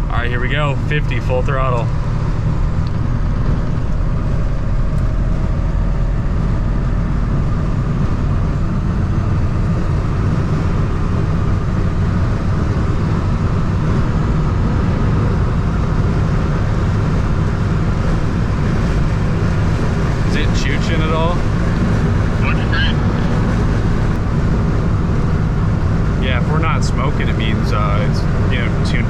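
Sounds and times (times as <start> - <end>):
diesel engine at full throttle: 0.0 - 29.0
road and wind noise: 0.0 - 29.0.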